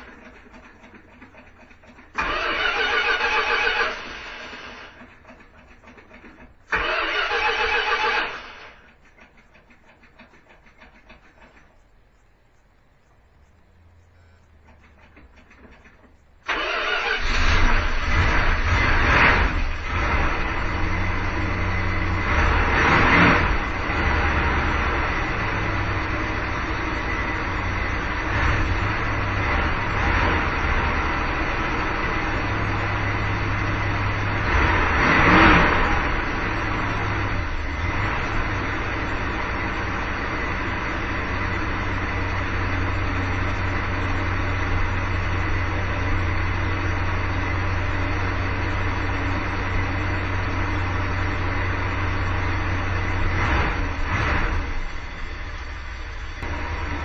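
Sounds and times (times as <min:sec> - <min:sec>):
van engine idling: 0:00.0 - 0:11.6, 0:13.8 - 0:57.0.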